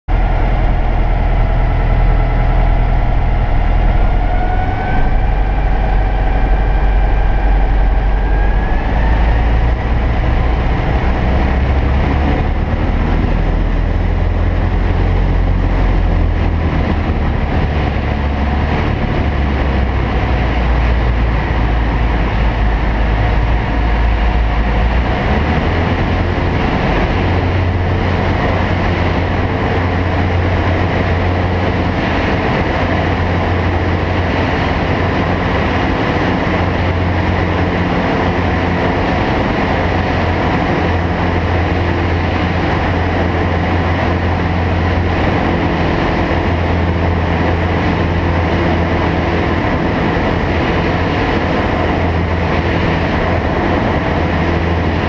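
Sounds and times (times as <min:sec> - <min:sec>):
aircraft engine and propeller: 0:00.1 - 0:55.0.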